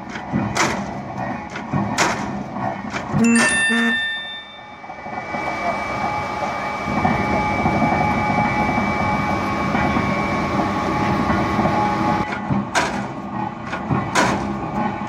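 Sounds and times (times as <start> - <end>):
machine rumble and clatter: 0.0 - 3.2, 4.3 - 15.0.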